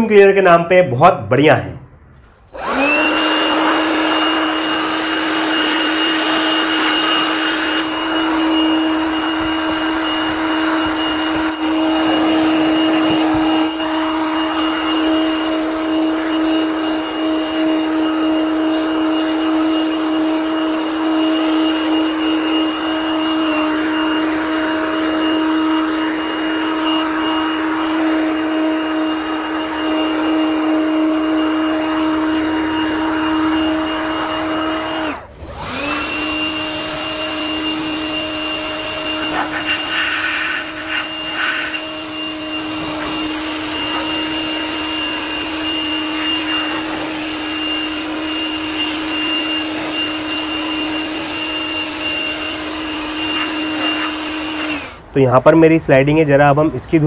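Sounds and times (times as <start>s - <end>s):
electric air blower whining: 2.0s - 55.8s.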